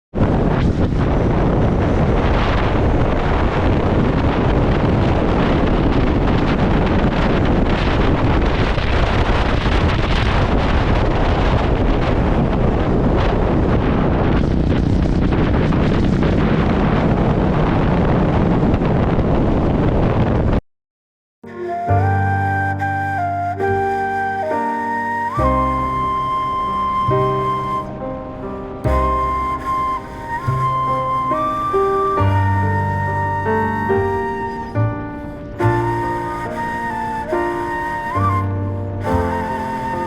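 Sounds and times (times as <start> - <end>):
wind buffeting microphone: 0.1 - 20.6, 21.6 - 40.0.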